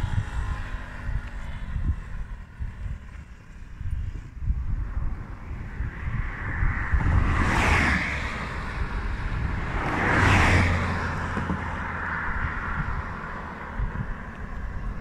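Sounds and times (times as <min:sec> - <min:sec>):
low engine hum: 0:00.0 - 0:15.0
vehicles passing by: 0:00.0 - 0:15.0
wind buffeting microphone: 0:00.0 - 0:15.0.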